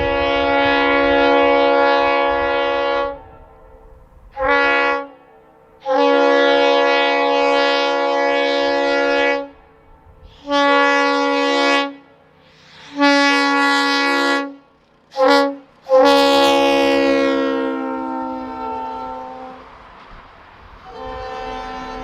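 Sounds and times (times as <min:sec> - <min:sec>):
train air horn blasts: 0:00.0 - 0:19.8, 0:20.8 - 0:22.0.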